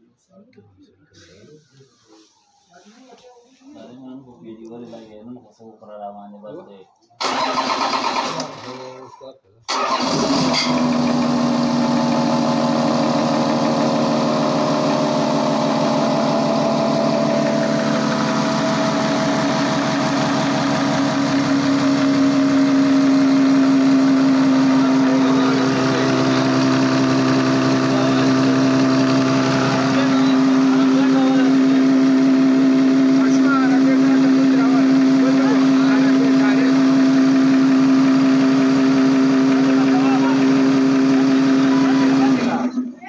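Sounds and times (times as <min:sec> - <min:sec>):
diesel engine idling: 0:07.2 - 0:09.1, 0:09.7 - 0:42.7.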